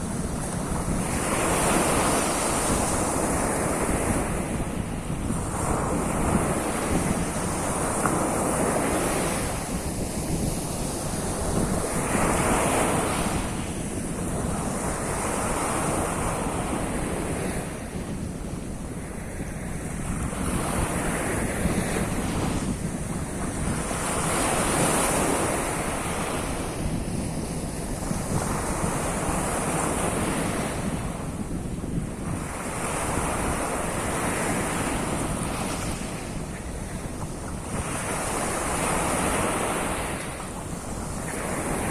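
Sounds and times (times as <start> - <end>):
waves washing onto shore: 0.0 - 41.9
wind buffeting microphone: 0.0 - 41.9.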